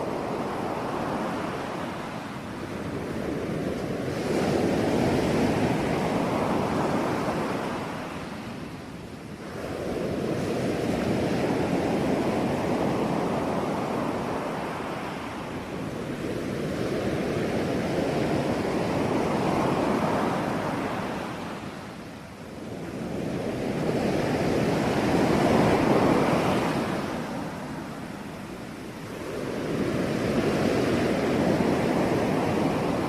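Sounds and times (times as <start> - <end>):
sea waves breaking on shore: 0.0 - 33.0.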